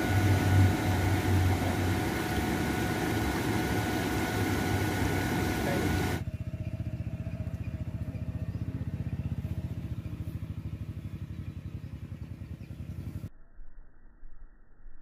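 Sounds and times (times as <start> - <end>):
small engine running: 0.0 - 13.3.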